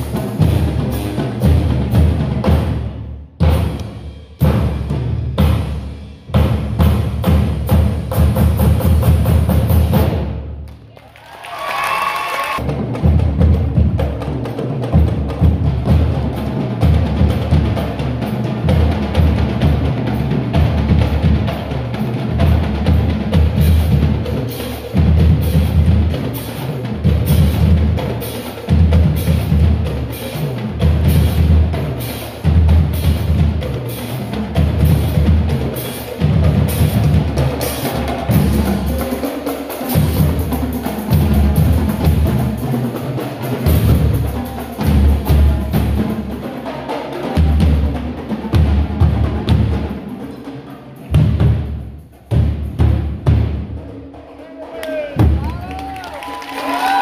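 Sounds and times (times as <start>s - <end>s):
cymbals: 0.0s - 10.6s, 11.5s - 57.0s
bass drums beating: 0.0s - 10.7s, 12.6s - 46.5s, 47.2s - 50.2s, 51.0s - 54.2s, 54.9s - 56.3s
snare drums: 0.0s - 57.0s.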